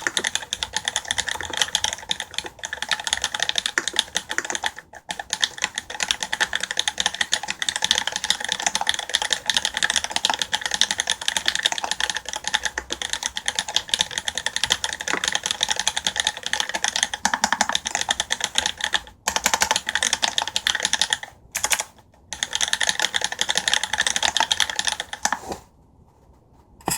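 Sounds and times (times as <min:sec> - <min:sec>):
fast typing on mechanical keyboard: 0:00.0 - 0:25.6.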